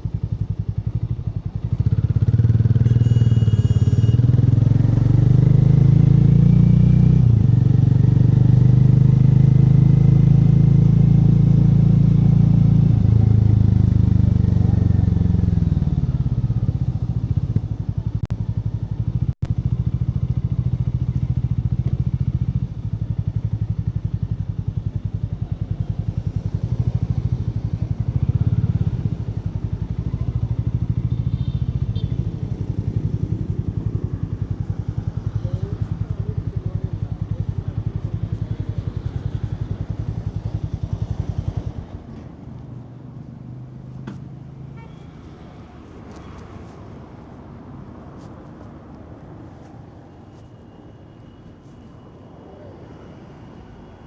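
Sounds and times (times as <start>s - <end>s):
motorcycle engine running: 0.0s - 46.6s.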